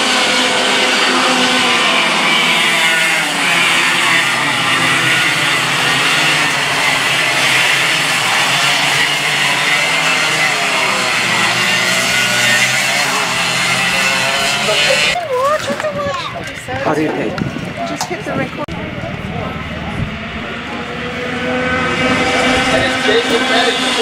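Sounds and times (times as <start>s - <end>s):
kart engines whining at high revs: 0.0s - 24.0s.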